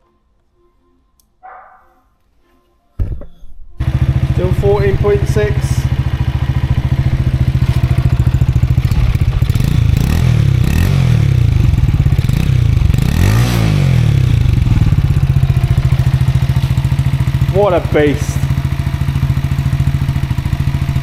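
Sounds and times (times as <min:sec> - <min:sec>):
motorcycle engine idling and revving: 0:03.8 - 0:21.0.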